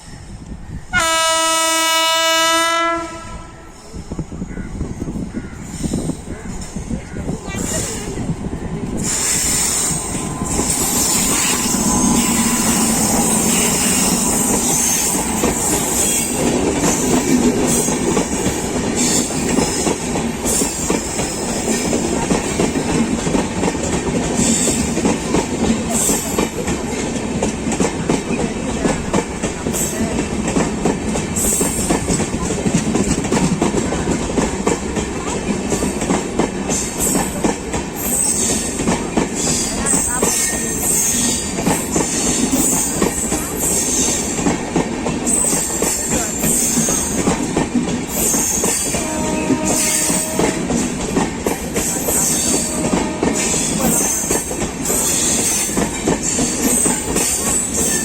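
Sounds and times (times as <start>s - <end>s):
train wheels clattering over rail joints: 7.5s - 58.0s.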